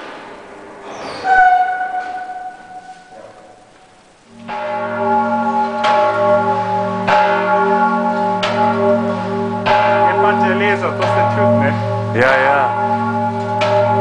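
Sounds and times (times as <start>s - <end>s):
church bell tolling: 0.0s - 14.0s.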